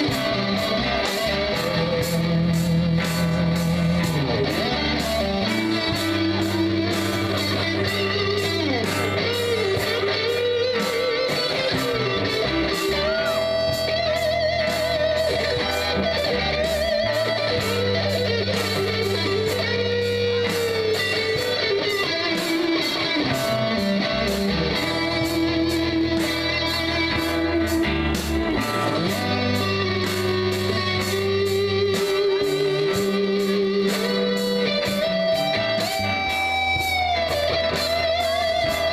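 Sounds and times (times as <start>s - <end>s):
rock band playing: 0.0s - 38.9s
sliding lead guitar line: 0.0s - 38.9s.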